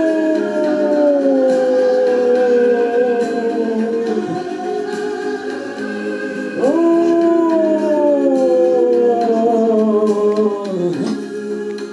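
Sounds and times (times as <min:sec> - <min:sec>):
dog howling: 0:00.0 - 0:11.3
song playing in the room: 0:00.0 - 0:11.9.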